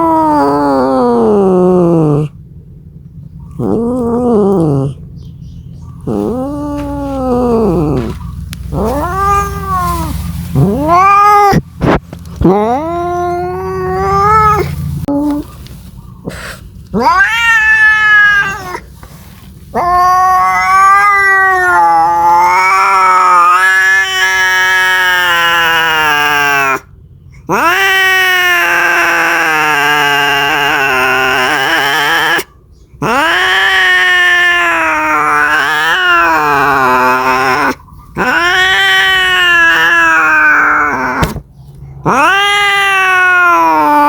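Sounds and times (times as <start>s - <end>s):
cat yowling: 0.0s - 2.4s, 3.5s - 5.1s, 6.0s - 15.5s, 16.3s - 18.9s, 19.7s - 26.9s, 27.5s - 44.0s.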